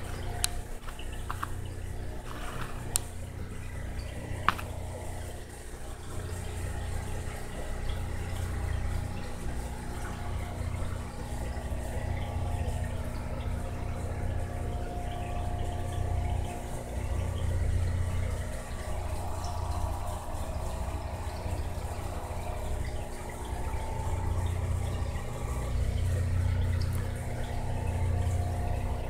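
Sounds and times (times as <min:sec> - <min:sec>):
aquarium filter pump humming: 0:00.0 - 0:29.0.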